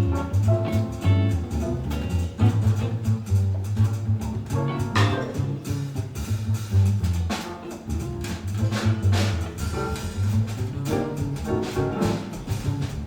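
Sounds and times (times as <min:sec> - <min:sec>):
double bass plucked notes: 0:00.0 - 0:13.0
drum kit cymbals: 0:00.0 - 0:13.0
jazz guitar: 0:00.0 - 0:13.0.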